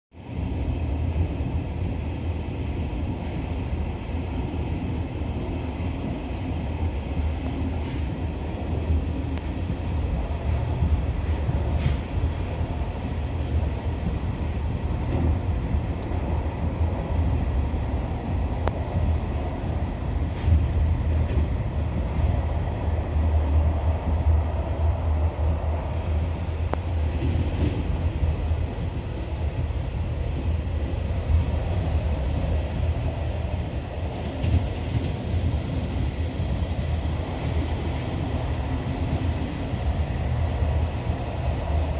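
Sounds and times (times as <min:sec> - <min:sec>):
train wheels rumbling on rails: 0:00.1 - 0:41.9.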